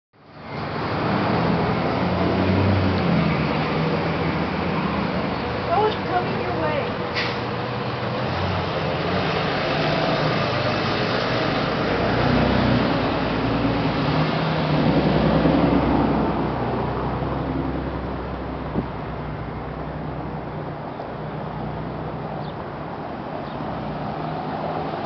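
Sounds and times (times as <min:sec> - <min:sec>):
bus engine passing by: 0:00.2 - 0:25.0
car driving on brick street: 0:00.2 - 0:25.0.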